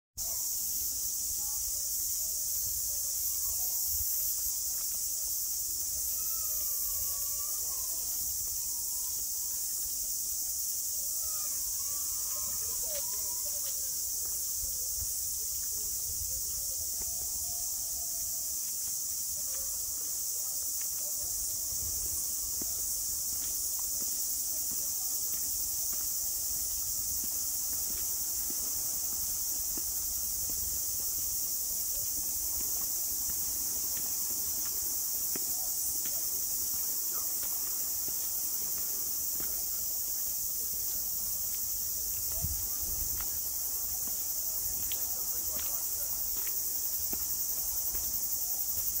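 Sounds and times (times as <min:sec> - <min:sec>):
cicadas chorus: 0:00.2 - 0:49.0.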